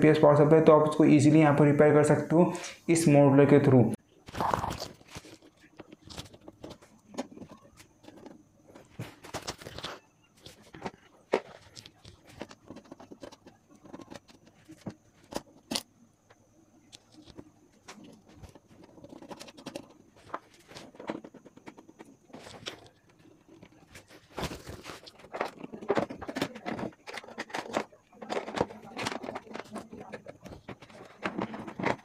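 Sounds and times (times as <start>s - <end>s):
hands handling wire connectors: 4.3s - 15.9s, 16.8s - 32.0s.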